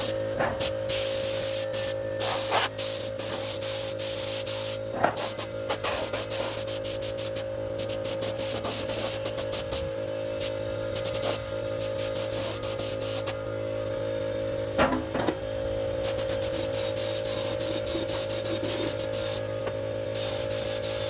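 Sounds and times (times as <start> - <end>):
spray bursts hissing: 0.0 - 9.8, 10.4 - 13.4, 16.0 - 19.4, 20.1 - 21.0
steady hum with mid-pitched tone: 0.0 - 21.0.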